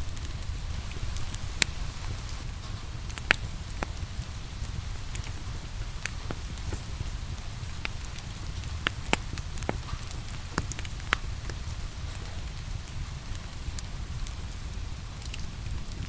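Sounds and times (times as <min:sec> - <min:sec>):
steady rain hiss: 0:00.0 - 0:16.0
wood fire crackling and popping: 0:00.0 - 0:16.0.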